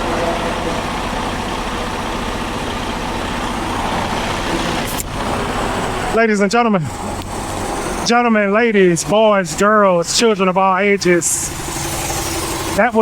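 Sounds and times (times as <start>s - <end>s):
diesel truck engine running: 0.0s - 13.0s
highway traffic noise: 0.0s - 13.0s.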